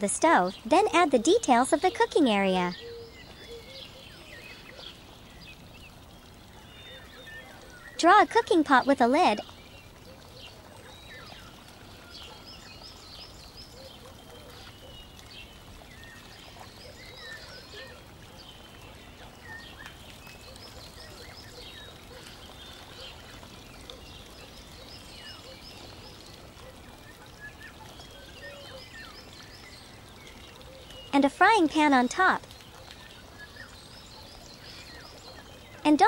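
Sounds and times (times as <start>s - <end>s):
birds chirping and singing: 0.2s - 26.4s, 27.0s - 31.1s.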